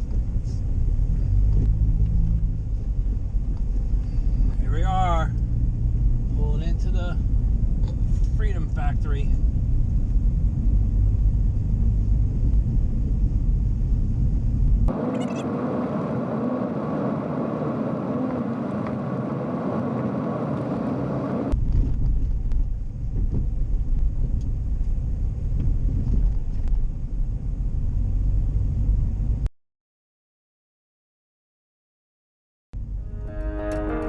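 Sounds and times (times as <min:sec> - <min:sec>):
car road and engine rumble: 0:00.0 - 0:29.5, 0:32.8 - 0:34.0.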